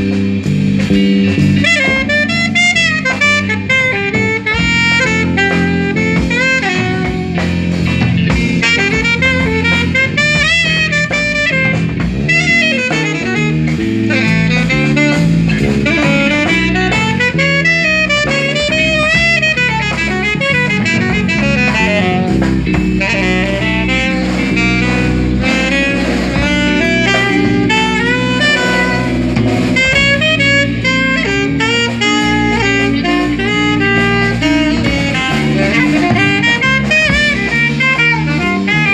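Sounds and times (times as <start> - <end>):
horn melody: 0.0 - 38.9
jazz band playing: 0.0 - 38.9.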